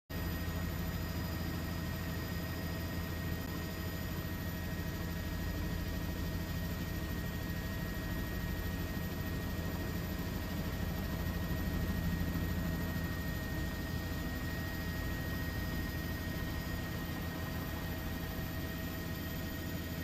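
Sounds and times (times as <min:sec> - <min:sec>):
aircraft engine drone: 0:00.1 - 0:20.0.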